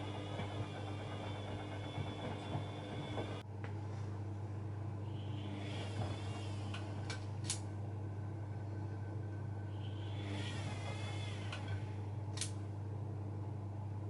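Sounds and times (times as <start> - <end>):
high wavering whine: 0.0 - 3.5, 4.6 - 12.8
washing machine running: 0.0 - 14.0.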